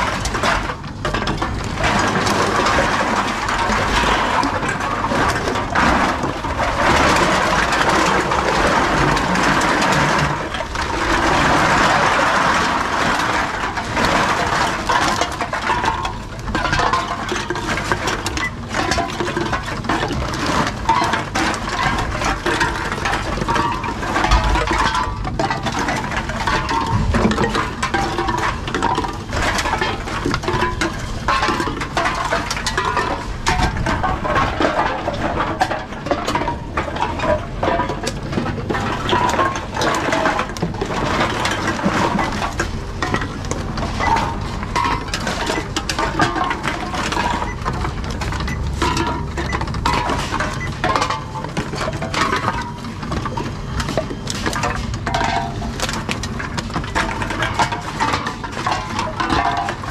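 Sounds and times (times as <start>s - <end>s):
cans and bottles clinking and rattling: 0.0s - 59.9s.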